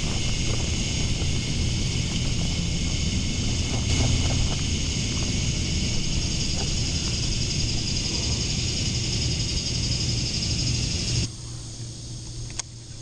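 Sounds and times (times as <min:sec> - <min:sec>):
high-pitched insects chorus: 0:00.0 - 0:13.0
low hum: 0:00.0 - 0:13.0.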